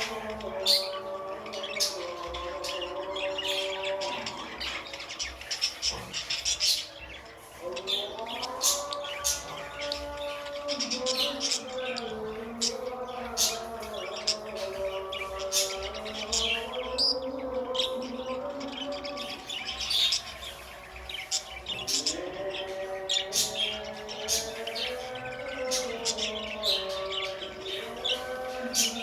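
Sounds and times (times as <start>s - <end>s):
budgies chirping: 0.0s - 29.0s.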